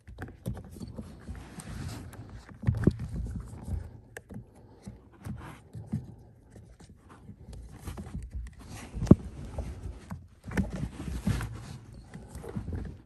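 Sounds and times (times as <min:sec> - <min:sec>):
rubber rubbing and creaking: 0:00.0 - 0:13.0.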